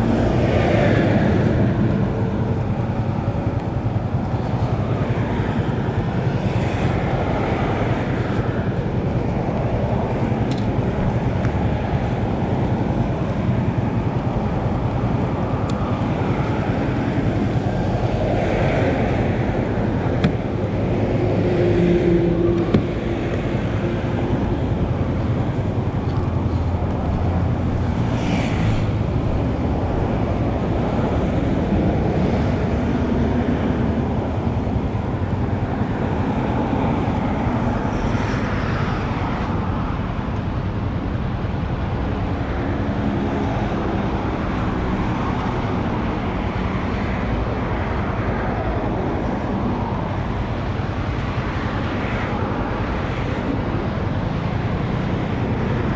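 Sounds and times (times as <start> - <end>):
low engine hum: 0.0 - 55.9
wind and road noise: 0.0 - 55.9.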